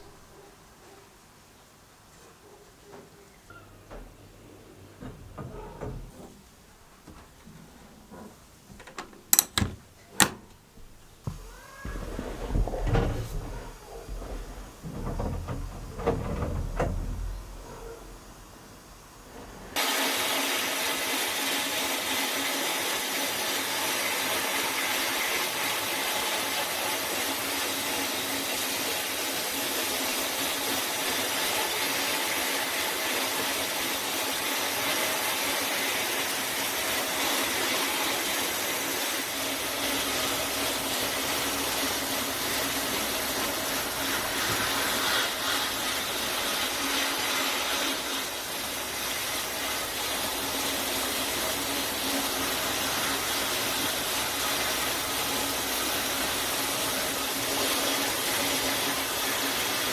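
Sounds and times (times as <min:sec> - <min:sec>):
hiss: 0:11.3 - 0:59.9.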